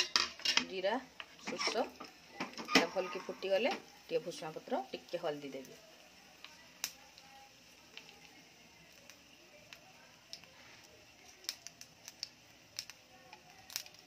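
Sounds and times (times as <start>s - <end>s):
seeds popping in hot oil: 0.0s - 14.0s.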